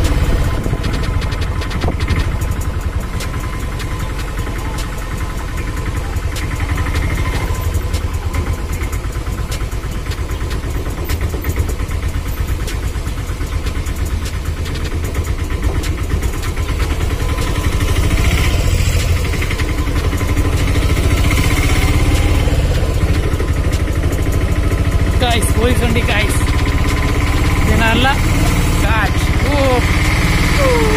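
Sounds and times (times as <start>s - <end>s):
vehicle engine rumbling: 0.0s - 30.9s.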